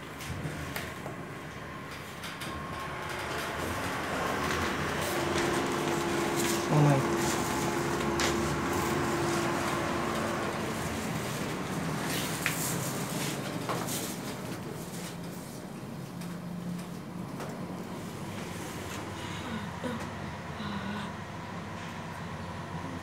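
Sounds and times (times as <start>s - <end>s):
elevator hum and rumble: 0.0s - 23.0s.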